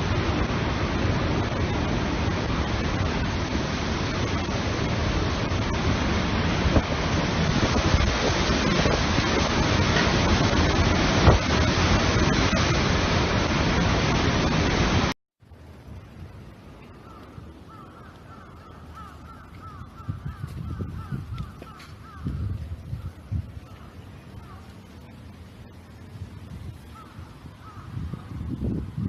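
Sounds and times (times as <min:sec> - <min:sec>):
storm wind and rain: 0:00.0 - 0:29.0
wind buffeting microphone: 0:00.0 - 0:29.0.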